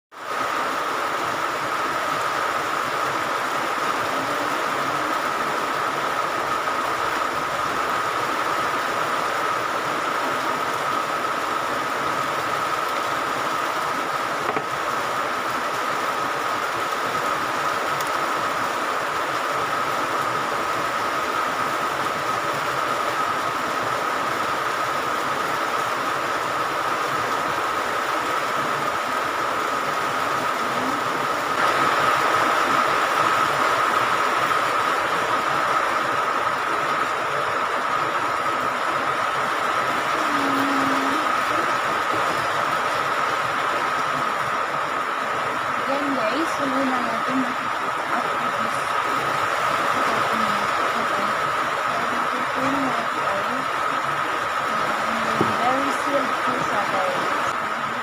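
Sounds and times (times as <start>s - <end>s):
heavy rain falling: 0.1s - 58.0s.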